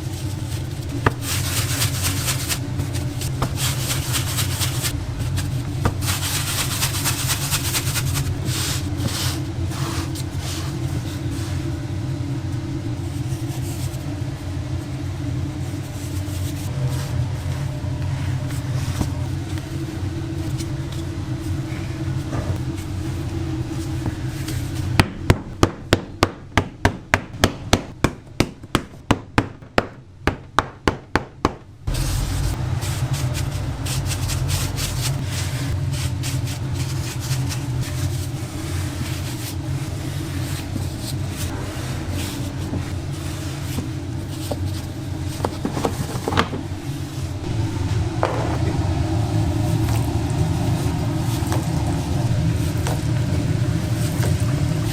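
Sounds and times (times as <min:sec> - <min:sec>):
low hum: 0:00.0 - 0:25.3, 0:31.8 - 0:54.9.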